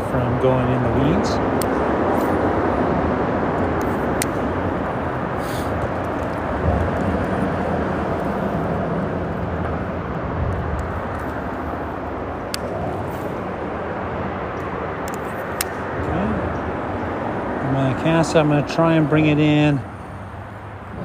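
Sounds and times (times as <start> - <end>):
freeway traffic rumble: 0.0 - 21.0.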